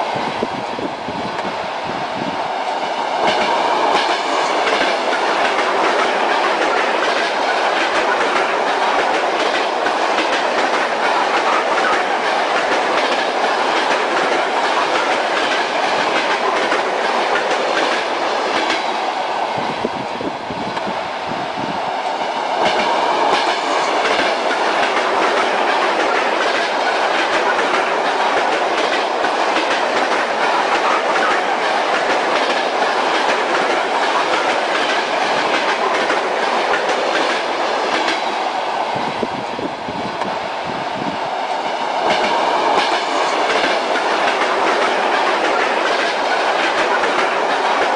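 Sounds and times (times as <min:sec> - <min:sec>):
train running noise: 0:00.0 - 0:47.9
train wheels clacking on rails: 0:02.4 - 0:47.9.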